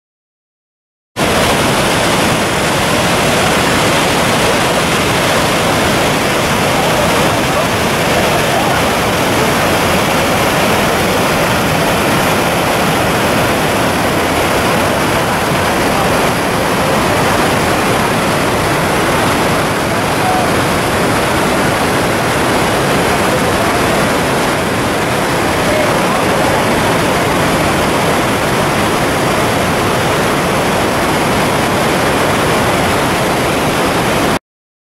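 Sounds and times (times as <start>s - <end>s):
waterfall rushing: 1.2s - 34.4s.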